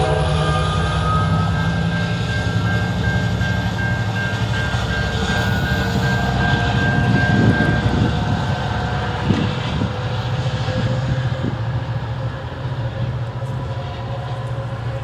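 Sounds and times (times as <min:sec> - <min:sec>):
pulsing high ringing tone: 0:00.0 - 0:12.4
diesel locomotive engine drone: 0:00.0 - 0:15.0.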